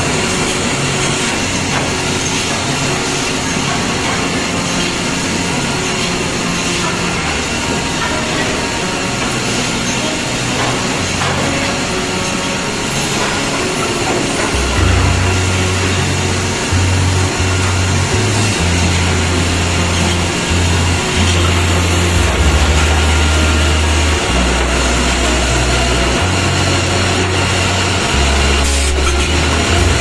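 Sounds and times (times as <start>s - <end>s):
saw machine running: 0.0s - 30.0s.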